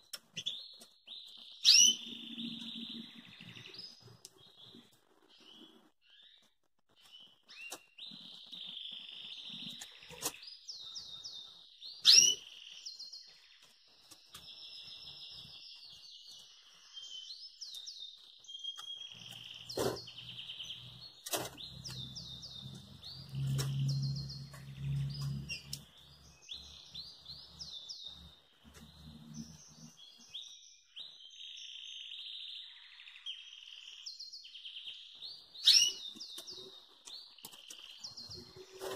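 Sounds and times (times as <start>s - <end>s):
finch singing trills: 0.1s - 6.4s, 7.0s - 38.9s.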